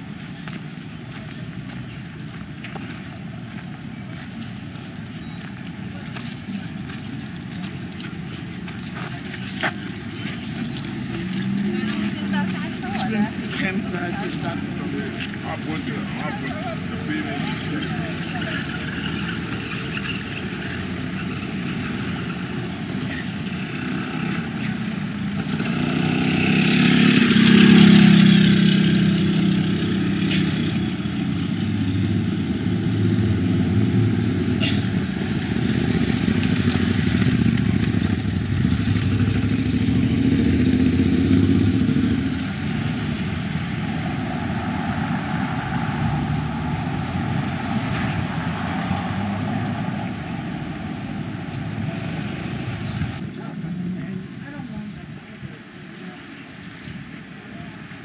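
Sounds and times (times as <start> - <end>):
vehicle engine passing: 6.5 - 54.7.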